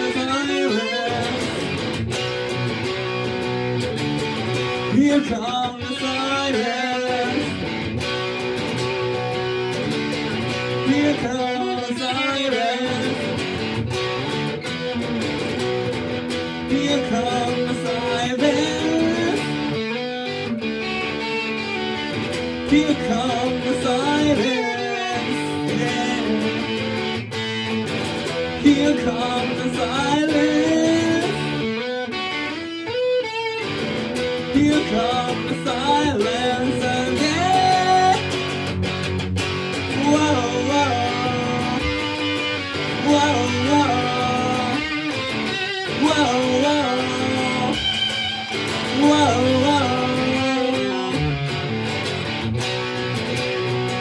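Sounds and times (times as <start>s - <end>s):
electric guitar melody: 0.0s - 54.0s.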